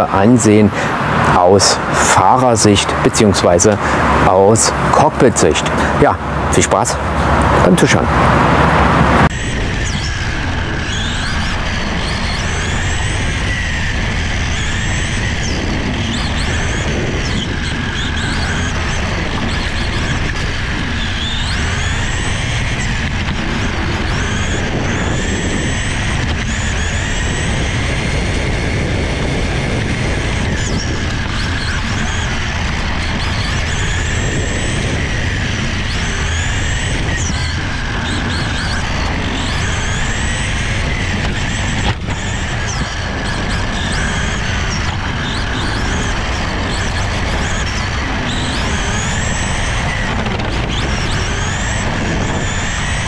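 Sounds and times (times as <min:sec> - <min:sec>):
steady rumble: 0:00.0 - 0:53.0
toy car motor whining: 0:09.2 - 0:53.0.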